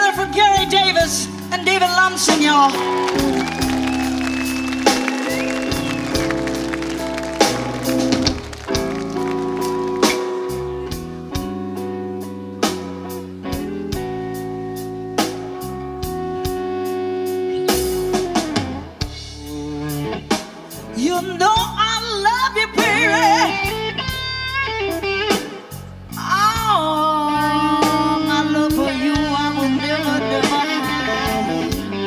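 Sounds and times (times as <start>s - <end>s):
drum kit beat: 0.0s - 29.7s
bass guitar: 0.0s - 32.0s
blues band playing live: 0.0s - 32.0s
electric guitar: 0.0s - 32.0s.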